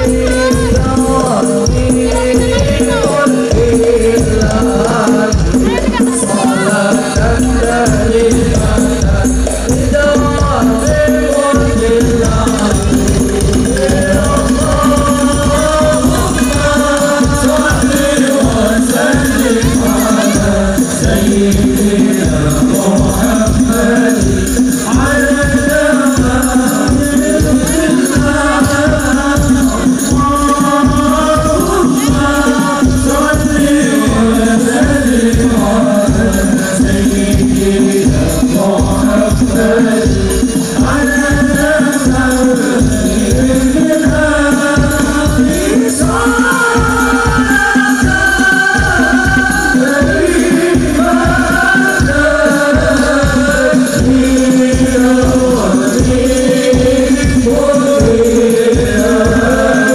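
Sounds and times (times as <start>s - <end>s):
frame drums and bass drum: 0.0s - 59.9s
voices singing devotional melody: 0.0s - 59.9s.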